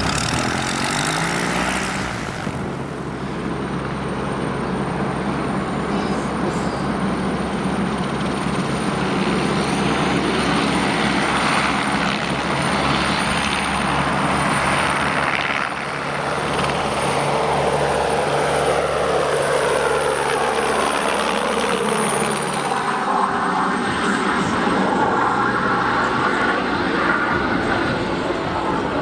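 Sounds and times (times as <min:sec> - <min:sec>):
helicopter rotor noise: 0:00.0 - 0:29.0
helicopter turbine whine: 0:00.0 - 0:29.0.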